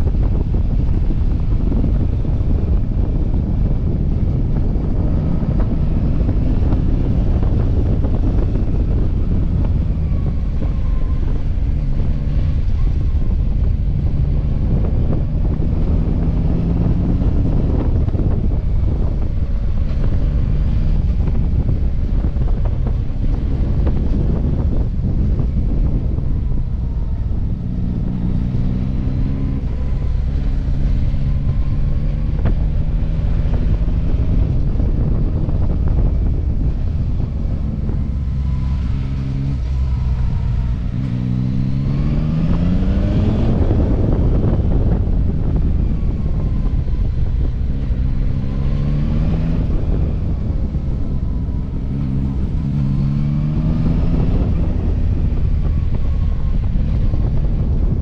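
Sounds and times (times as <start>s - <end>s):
motorcycle engine accelerating: 0.0s - 58.0s
wind and road rush: 0.0s - 58.0s.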